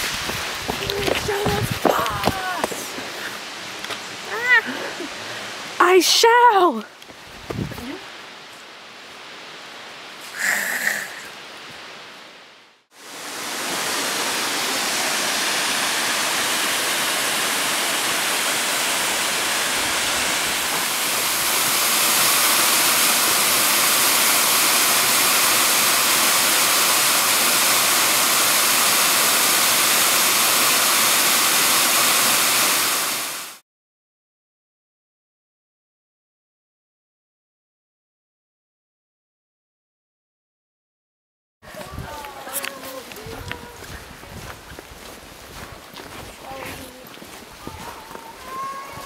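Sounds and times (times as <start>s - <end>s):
waterfall and stream rushing: 0.0s - 33.6s, 41.6s - 49.0s.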